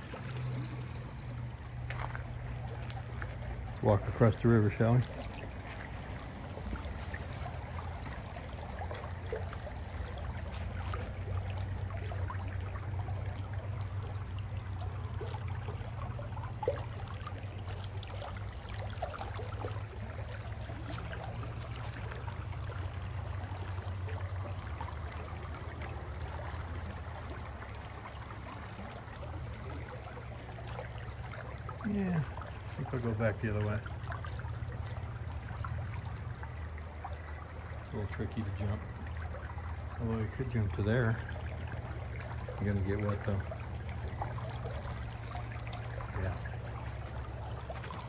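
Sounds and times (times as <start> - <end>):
stream trickling over rocks: 0.0 - 48.0.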